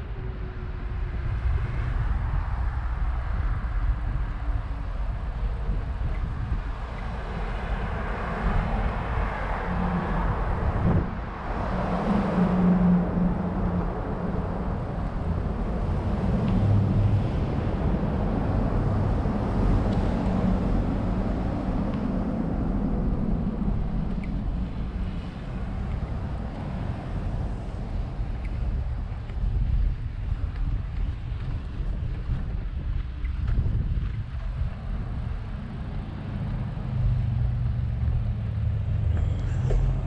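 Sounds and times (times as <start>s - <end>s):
road traffic passing: 0.0s - 40.0s
wind buffeting microphone: 0.0s - 40.0s
bicycle tyres rolling on path: 0.1s - 40.0s.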